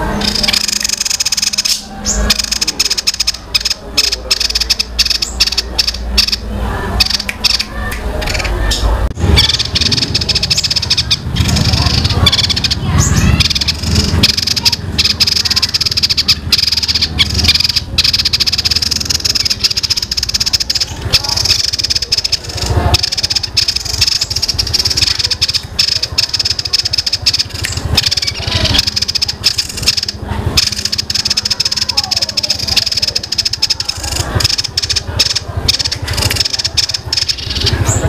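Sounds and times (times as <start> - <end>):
songbird rapid chattering roll: 0.0 - 38.0.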